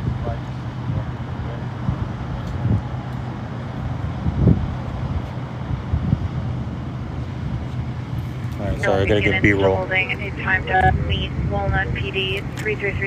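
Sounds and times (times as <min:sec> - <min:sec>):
low traffic rumbles: 0:00.0 - 0:13.0
vehicle engine humming: 0:00.0 - 0:13.0.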